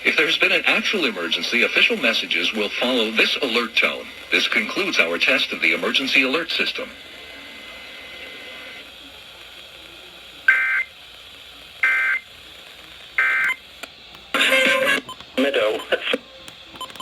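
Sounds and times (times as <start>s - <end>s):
faint radio hiss: 0.0s - 17.0s.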